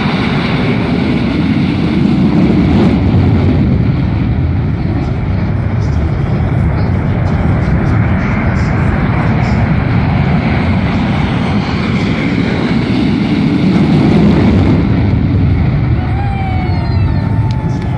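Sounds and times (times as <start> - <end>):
jet engine roar: 0.0 - 17.9.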